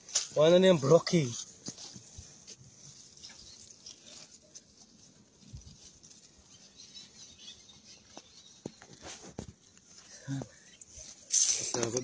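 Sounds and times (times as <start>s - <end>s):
hands working in loose soil: 0.0s - 12.0s.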